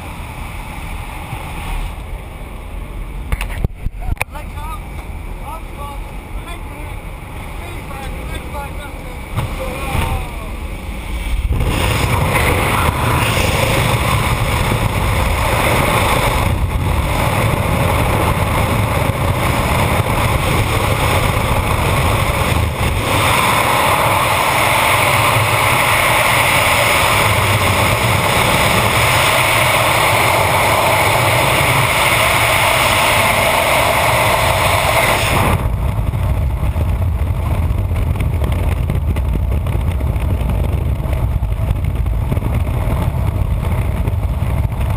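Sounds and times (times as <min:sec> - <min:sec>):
loud rushing wind: 0:00.0 - 0:44.9
low rumble: 0:00.0 - 0:44.9.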